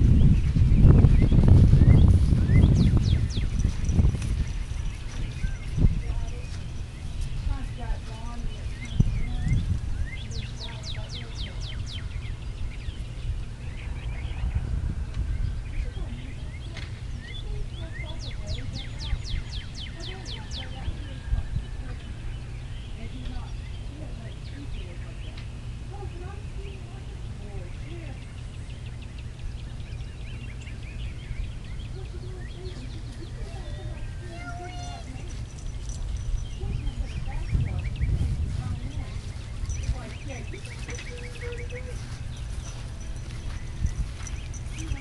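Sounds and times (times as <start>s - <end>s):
small birds chirping: 0.0s - 45.0s
songbird singing: 0.0s - 45.0s
wind rumble on microphone: 0.0s - 45.0s.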